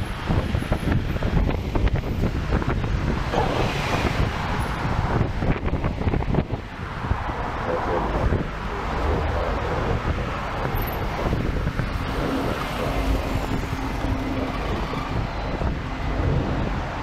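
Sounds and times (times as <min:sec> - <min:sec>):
city traffic: 0:00.0 - 0:17.0
wind buffeting microphone: 0:00.0 - 0:17.0.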